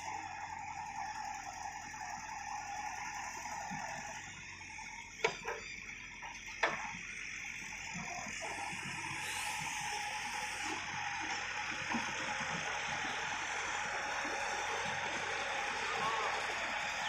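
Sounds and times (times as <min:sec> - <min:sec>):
excavator working: 0:00.0 - 0:17.0.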